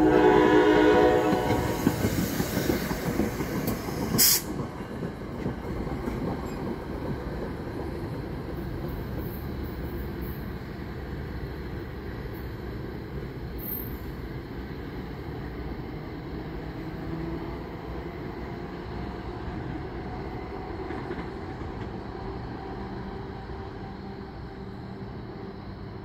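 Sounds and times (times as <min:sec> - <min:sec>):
train rail rumble: 0:00.0 - 0:26.0.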